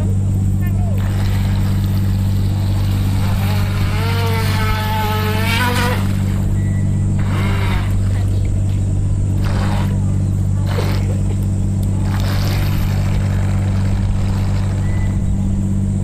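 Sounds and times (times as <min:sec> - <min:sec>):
steady low hum: 0:00.0 - 0:16.0
electric motor whine of toy boat: 0:01.0 - 0:11.4, 0:12.0 - 0:16.0.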